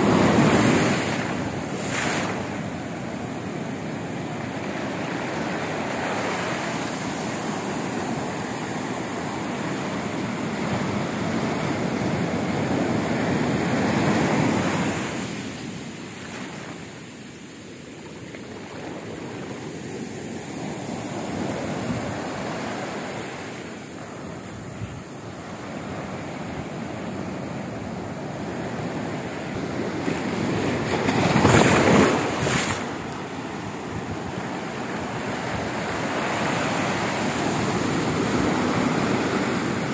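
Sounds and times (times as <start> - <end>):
waves breaking on sand: 0.0 - 39.9.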